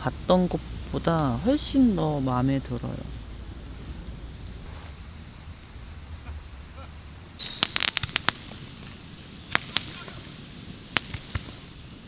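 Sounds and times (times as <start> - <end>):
low steady background noise: 0.0 - 12.0.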